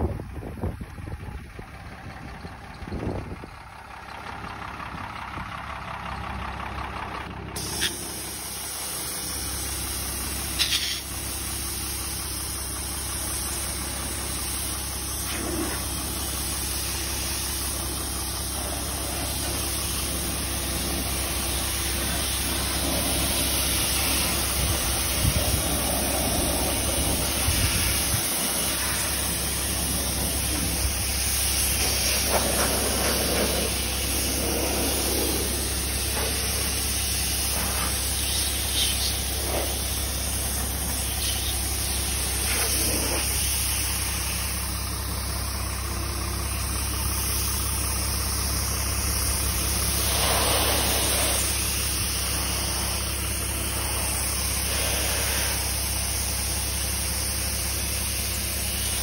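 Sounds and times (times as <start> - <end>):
pressure washer engine hum: 0.0 - 59.0
high-pressure water jet hissing: 7.6 - 45.3, 46.4 - 59.0.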